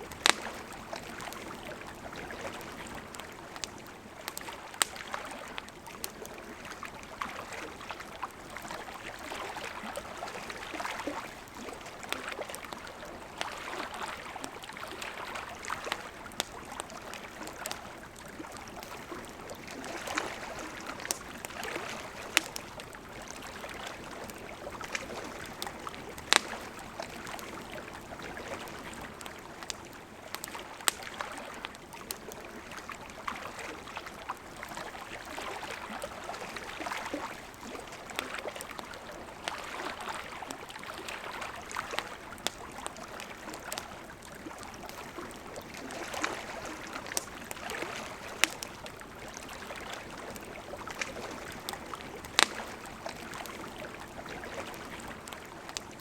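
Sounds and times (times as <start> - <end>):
campfire crackling and popping: 0.0 - 56.0
river running: 0.0 - 56.0.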